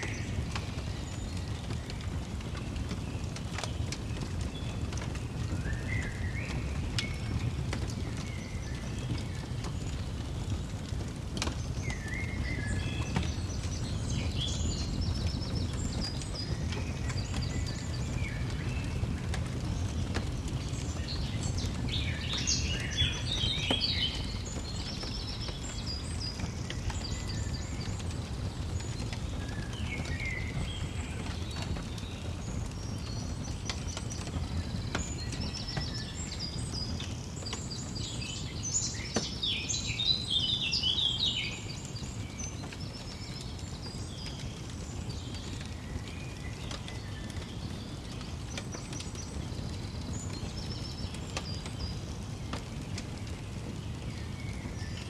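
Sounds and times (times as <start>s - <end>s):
songbirds chirping: 0.0s - 55.0s
wood fire crackling: 0.0s - 55.0s.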